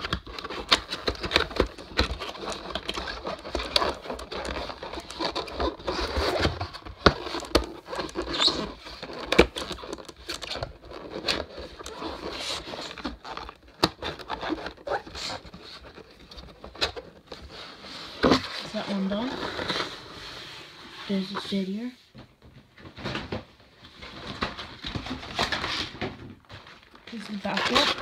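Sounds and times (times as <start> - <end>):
stiff panel scraping and rustling: 0.3 - 21.9, 23.9 - 28.0.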